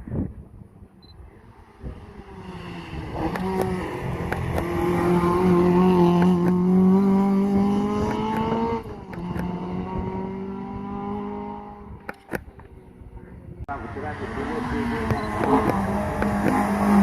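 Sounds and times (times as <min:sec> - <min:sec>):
car engine accelerating: 0:01.2 - 0:17.0.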